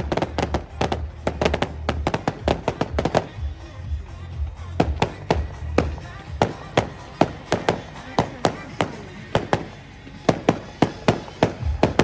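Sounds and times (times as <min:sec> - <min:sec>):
fireworks bangs and crackles: 0:00.0 - 0:12.0
music: 0:00.0 - 0:12.0.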